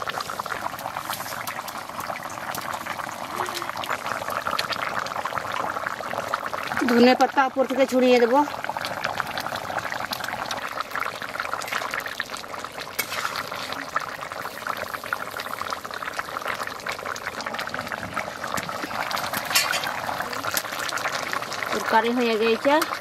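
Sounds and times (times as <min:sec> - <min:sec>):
curry bubbling in a wok: 0:00.0 - 0:23.0.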